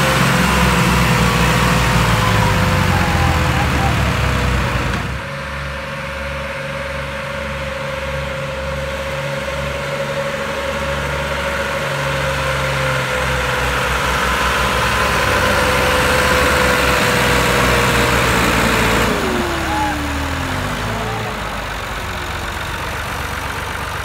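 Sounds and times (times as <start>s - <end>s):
tractor diesel engine rumbling: 0.0s - 24.0s.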